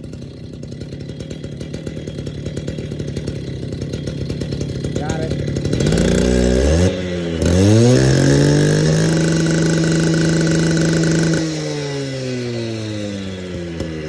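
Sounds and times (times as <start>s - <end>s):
cut-off saw engine revving: 0.0s - 14.0s.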